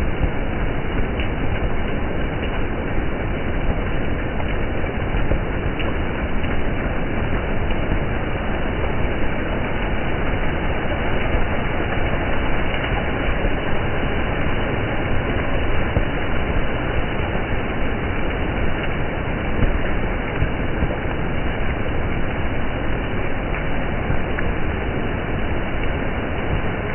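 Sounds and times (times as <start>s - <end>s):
water rushing on wet street: 0.0s - 26.9s.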